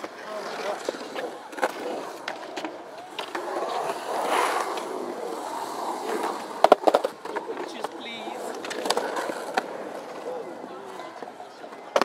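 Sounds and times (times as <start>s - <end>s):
skateboard clicks: 0.0s - 12.0s
skateboard wheels rolling on concrete: 0.0s - 12.0s.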